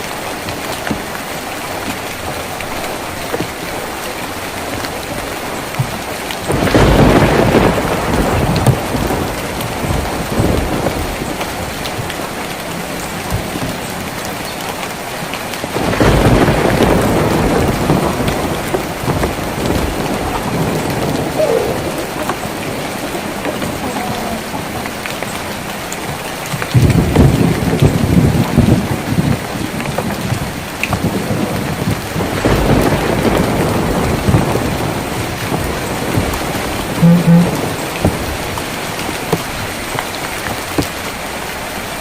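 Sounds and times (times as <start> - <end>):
rain drumming on a tin roof: 0.0 - 42.0
thunder rolling: 4.7 - 39.8.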